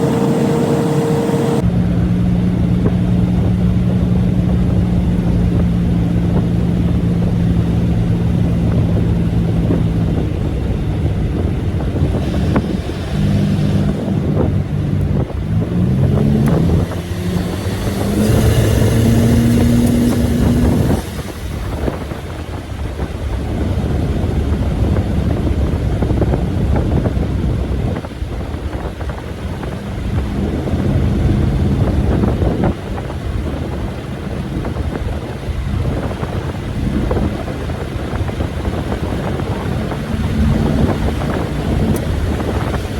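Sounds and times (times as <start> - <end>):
car engine accelerating: 0.0 - 42.9
wind noise: 0.0 - 42.9.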